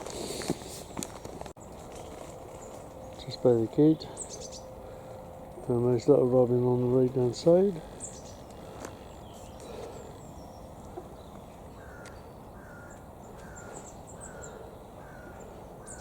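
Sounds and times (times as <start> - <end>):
down-slurred bird calls: 2.0 - 16.0.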